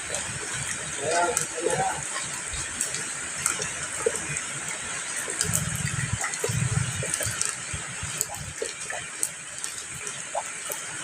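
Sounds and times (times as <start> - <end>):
steady rain: 0.0 - 11.0
drops ticking: 0.1 - 11.0.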